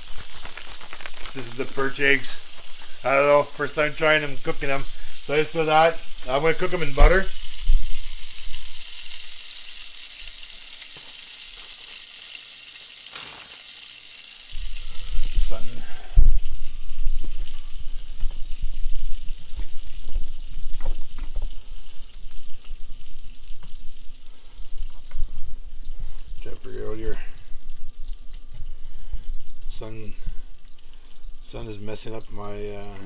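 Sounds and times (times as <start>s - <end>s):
frying sizzle in pan: 0.0s - 33.0s.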